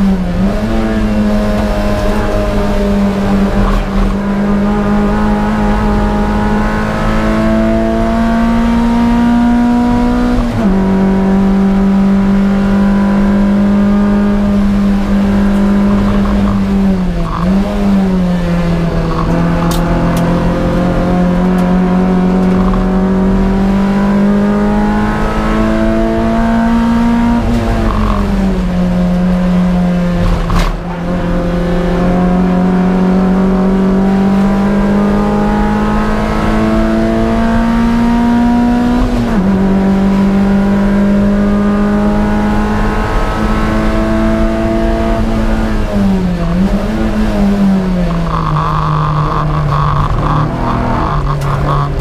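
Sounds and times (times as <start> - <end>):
race car engine running hard: 0.0 - 52.0.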